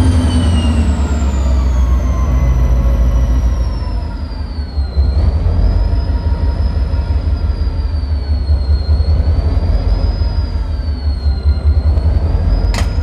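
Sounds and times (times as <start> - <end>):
high wavering whine: 0.0 - 13.0
locomotive diesel engine running: 0.0 - 13.0.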